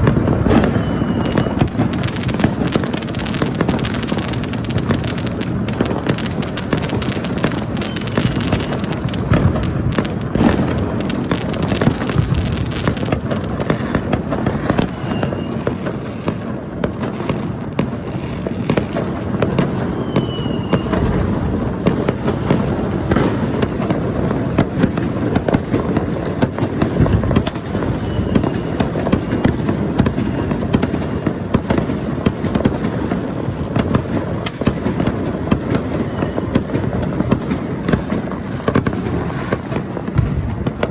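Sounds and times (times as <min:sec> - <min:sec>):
faint firework whistles: 0:00.0 - 0:16.6, 0:18.2 - 0:40.9
fireworks crackling and banging: 0:00.0 - 0:40.9.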